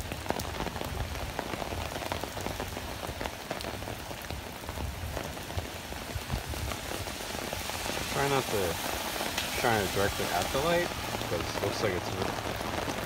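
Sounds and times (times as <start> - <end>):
heavy rain hiss: 0.0 - 13.0
raindrops ticking on umbrella: 0.0 - 13.0
wind gusts on microphone: 0.1 - 13.0.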